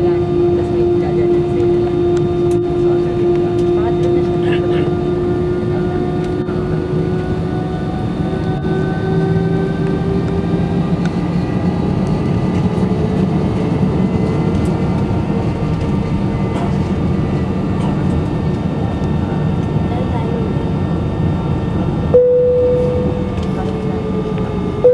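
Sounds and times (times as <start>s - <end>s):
jet engines rumbling in cabin: 0.0s - 24.9s.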